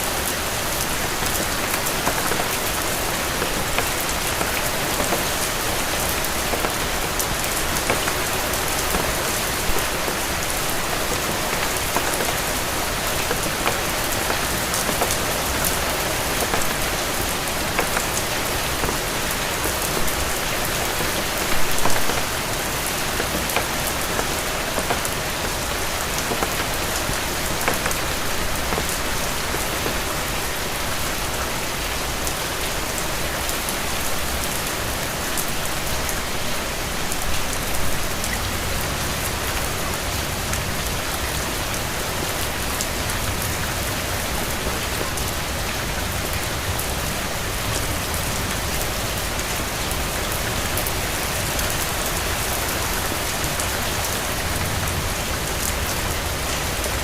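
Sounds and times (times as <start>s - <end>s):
rain pattering on hard surfaces: 0.0s - 57.0s.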